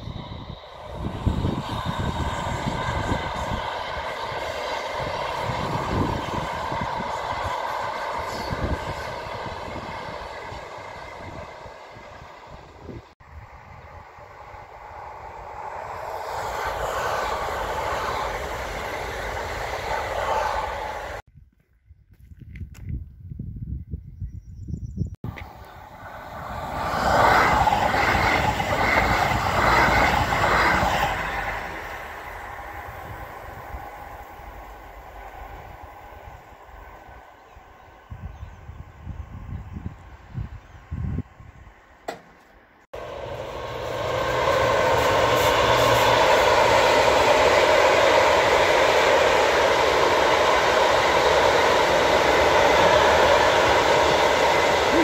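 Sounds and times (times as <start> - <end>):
train wheels rumbling past: 0.0 - 21.2, 25.2 - 40.5, 42.9 - 55.0.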